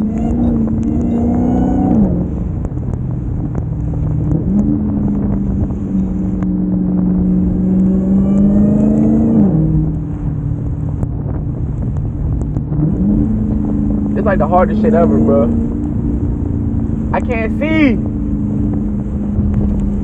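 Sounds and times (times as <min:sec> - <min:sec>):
car engine accelerating: 0:00.0 - 0:20.0
supercharger whine: 0:00.0 - 0:20.0.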